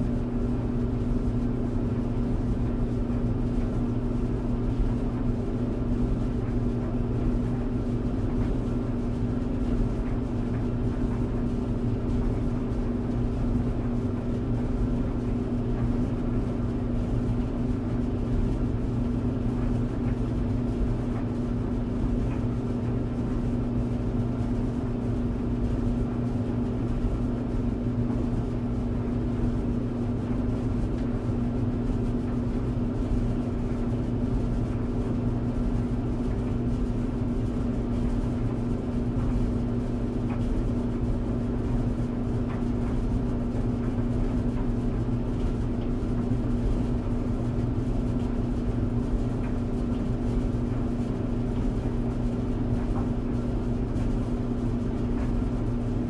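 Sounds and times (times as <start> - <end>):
tumble dryer running: 0.0 - 56.0.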